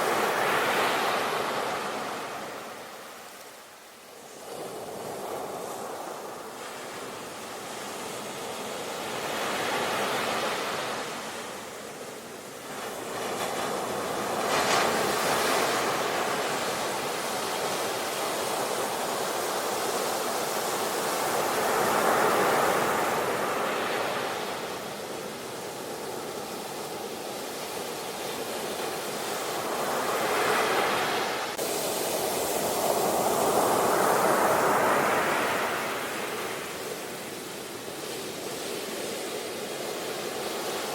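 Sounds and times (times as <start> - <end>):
ocean waves crashing on shore: 0.0 - 40.9.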